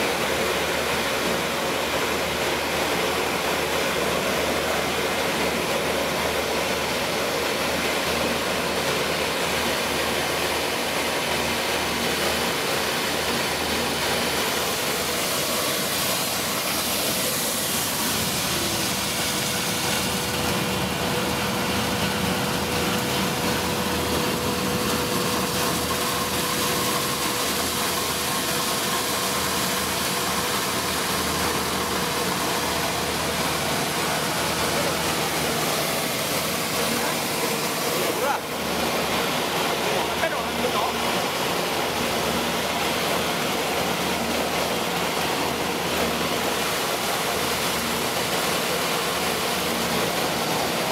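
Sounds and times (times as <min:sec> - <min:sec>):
corn milling machine droning: 0:00.0 - 0:50.9
corn grits streaming into basin: 0:00.1 - 0:50.9
steady hum: 0:06.2 - 0:50.9.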